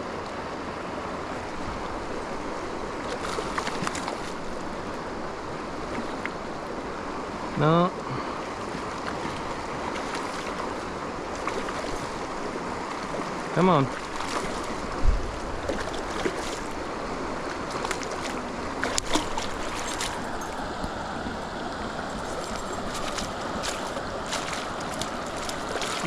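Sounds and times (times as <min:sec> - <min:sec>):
fast-flowing river water: 0:00.0 - 0:26.0.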